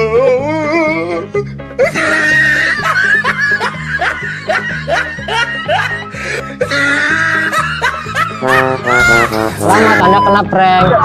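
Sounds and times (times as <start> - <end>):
laughter: 1.8 - 11.0.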